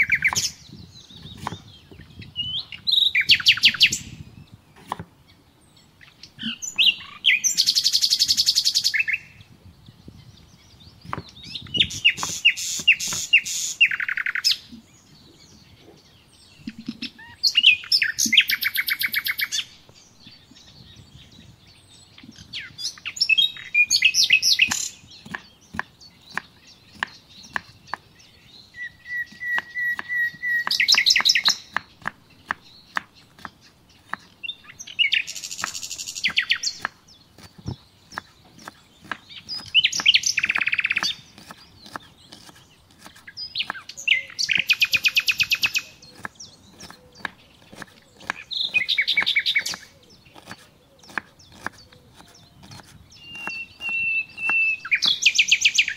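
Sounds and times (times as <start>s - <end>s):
songbird trilling: 0.0s - 55.9s.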